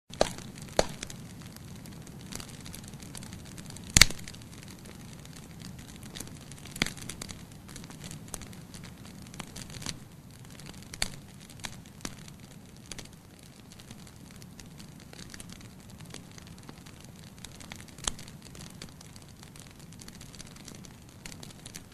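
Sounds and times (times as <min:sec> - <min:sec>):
wood fire crackling and popping: 0:00.1 - 0:21.9.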